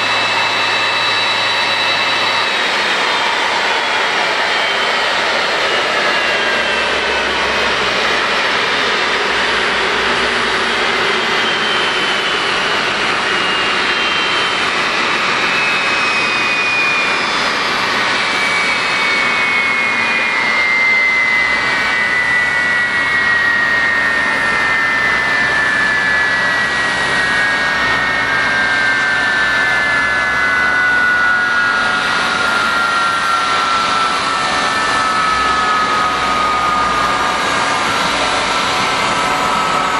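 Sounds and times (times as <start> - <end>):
continuous rushing hum: 0.0 - 39.9
jet engine whine falling: 0.0 - 39.9.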